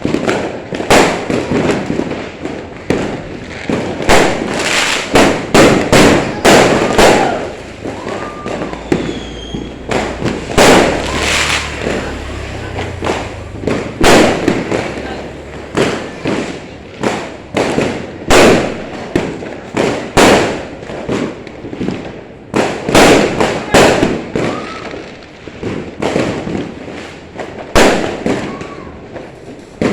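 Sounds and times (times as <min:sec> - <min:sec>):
fireworks banging: 0:00.0 - 0:29.9.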